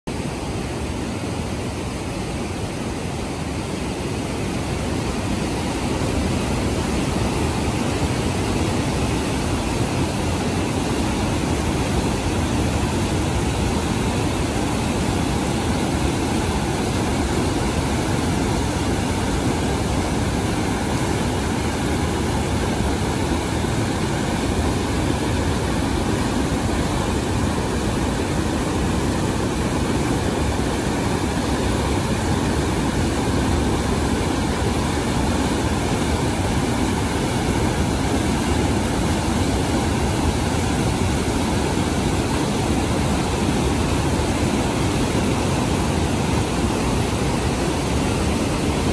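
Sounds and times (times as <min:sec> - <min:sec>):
river rapids rushing over rocks: 0:00.1 - 0:48.9.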